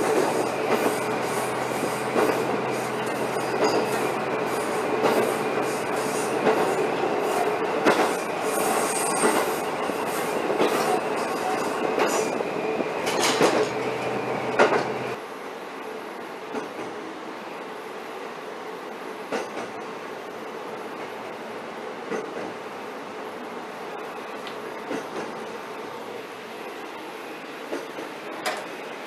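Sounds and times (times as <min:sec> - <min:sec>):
railcar running noise: 0:00.0 - 0:29.0.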